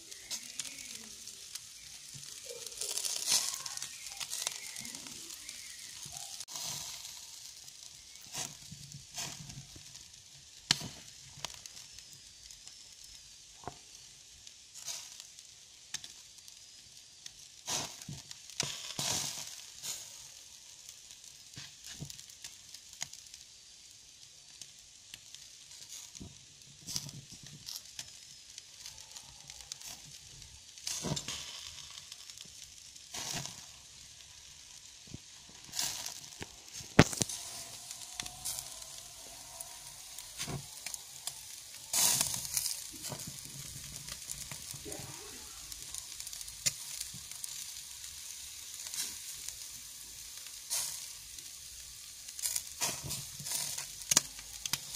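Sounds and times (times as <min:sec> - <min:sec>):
meat sizzling over embers: 0:00.0 - 0:54.9
sharp pops and crackles: 0:00.0 - 0:54.9.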